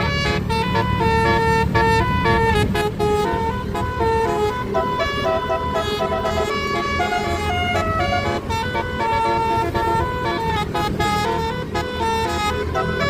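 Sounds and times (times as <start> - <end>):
bus engine running: 0.0 - 13.0
bus musical air horn tune: 0.0 - 13.0.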